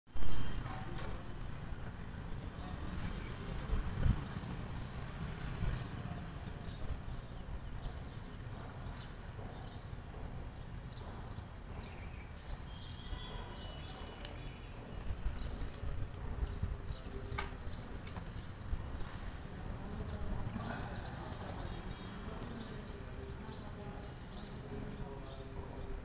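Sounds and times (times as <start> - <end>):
low street rumble: 0.1 - 26.0
small birds chirping: 0.2 - 26.0.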